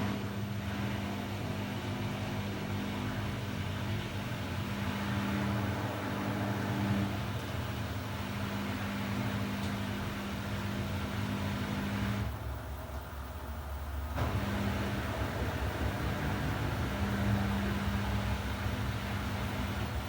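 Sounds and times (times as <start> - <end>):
washing machine running: 0.0 - 20.0.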